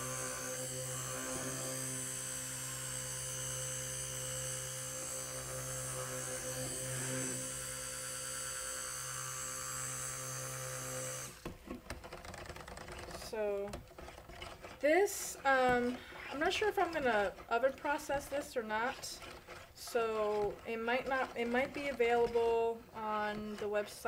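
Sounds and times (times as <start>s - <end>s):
stick blender motor humming: 0.0s - 24.0s.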